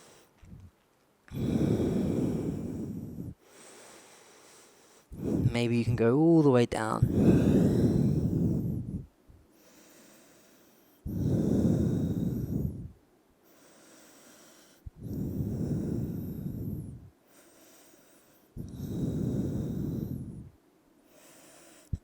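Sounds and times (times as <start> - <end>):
person breathing slowly and deeply: 0.0 - 0.6, 1.3 - 5.6, 7.0 - 22.0.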